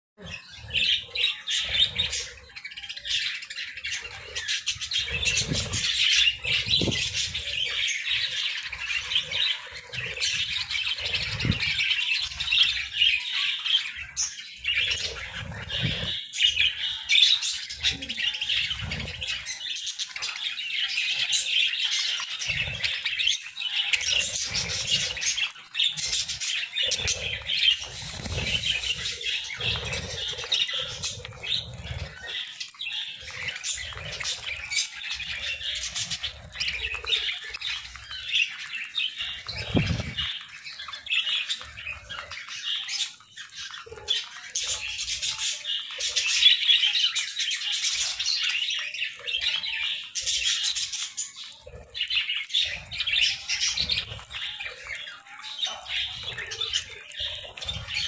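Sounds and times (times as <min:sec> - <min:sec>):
budgerigars chattering: 0:00.2 - 0:58.0.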